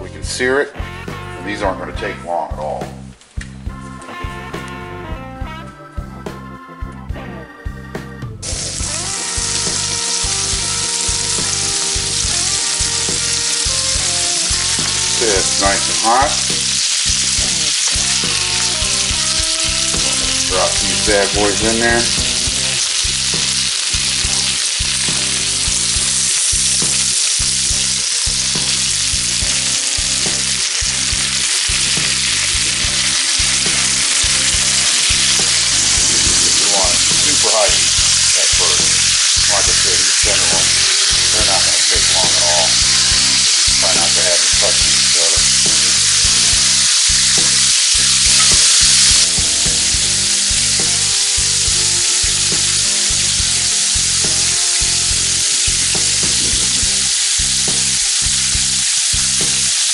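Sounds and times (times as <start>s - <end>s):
steaks sizzling in butter: 8.4s - 59.9s.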